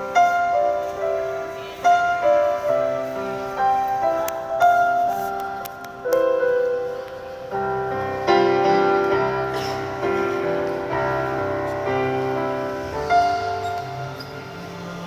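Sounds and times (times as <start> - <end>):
keyboard playing slow chords: 0.0 - 15.0.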